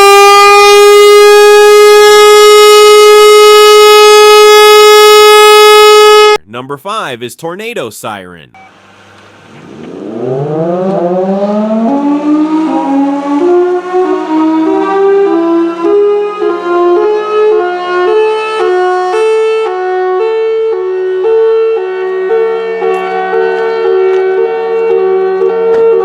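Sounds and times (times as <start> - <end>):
tornado warning siren wailing: 0.0 - 6.4, 8.6 - 26.0.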